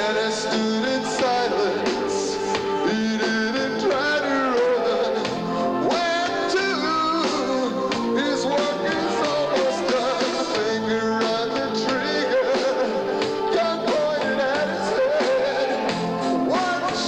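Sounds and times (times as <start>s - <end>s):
drum kit: 0.0s - 17.0s
electric bass: 0.0s - 17.0s
rock band playing live: 0.0s - 17.0s.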